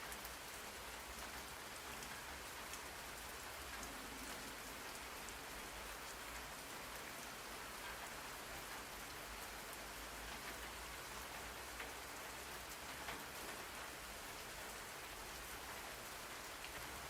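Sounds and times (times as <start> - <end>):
steady rain hiss: 0.0 - 17.0
rain drop ticks: 0.1 - 17.0.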